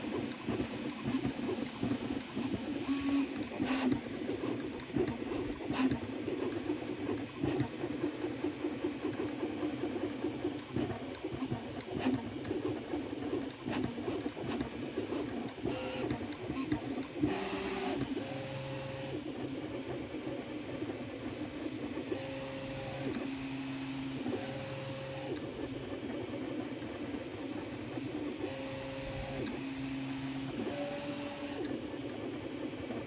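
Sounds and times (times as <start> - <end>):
printer stepper motors whining: 0.0 - 33.0.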